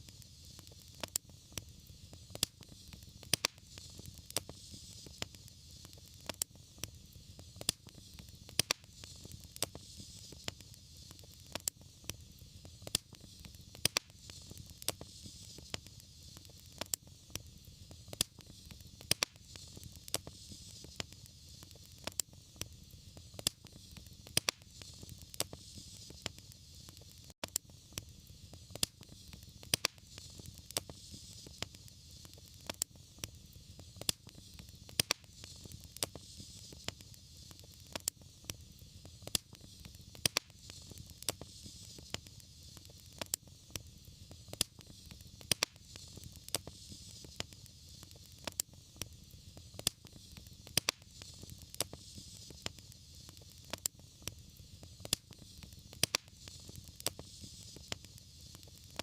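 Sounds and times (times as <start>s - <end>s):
low fire rumble: 0.0s - 59.0s
soft fire hiss: 0.0s - 59.0s
wood fire crackling and popping: 0.0s - 59.0s.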